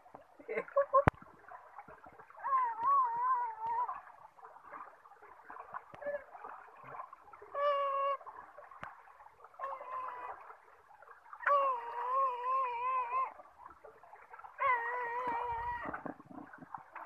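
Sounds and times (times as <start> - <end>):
water splashing: 0.0 - 17.0.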